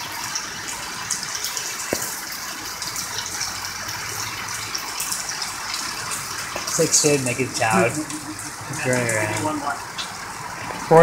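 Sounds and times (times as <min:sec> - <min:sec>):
rain falling: 0:00.0 - 0:11.0
water splashing on concrete steps: 0:00.0 - 0:11.0.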